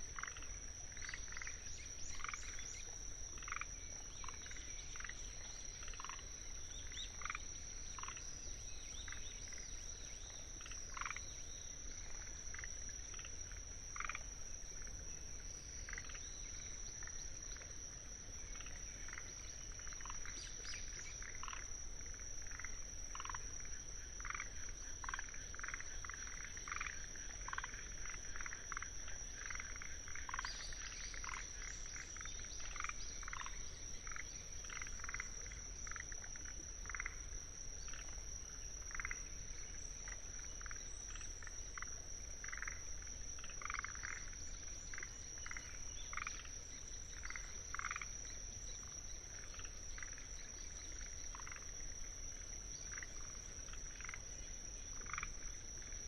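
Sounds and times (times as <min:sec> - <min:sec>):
crickets trilling: 0:00.0 - 0:56.0
tree frogs calling: 0:00.0 - 0:56.0.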